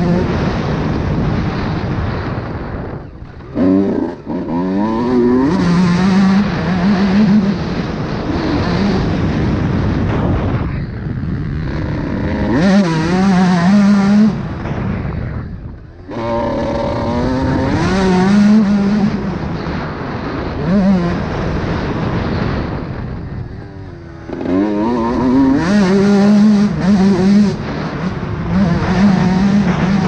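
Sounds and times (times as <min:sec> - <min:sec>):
motocross bike revving: 0:00.0 - 0:30.0.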